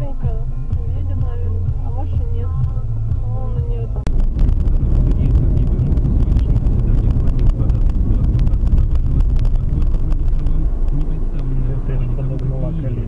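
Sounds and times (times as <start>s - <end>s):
car engine and road rumble: 0.0s - 13.0s
wind noise on microphone: 0.0s - 13.0s.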